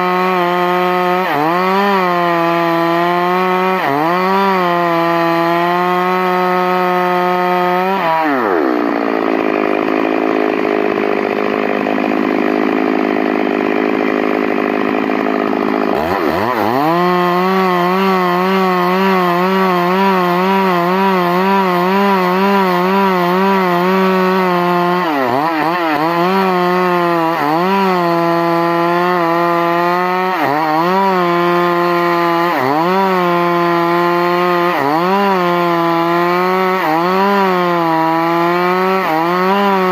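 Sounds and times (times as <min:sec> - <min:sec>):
chain cutting into wood: 0:00.0 - 0:39.9
chainsaw running at high revs: 0:00.0 - 0:39.9.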